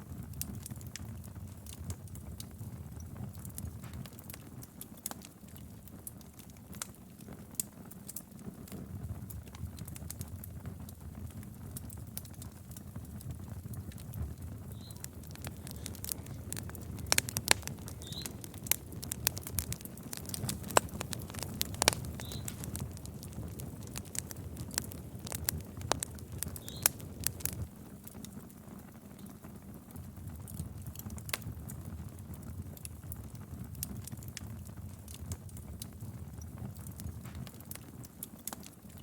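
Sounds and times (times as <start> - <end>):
fire crackling and popping: 0.0 - 39.0
low rumble of flame: 0.0 - 39.0.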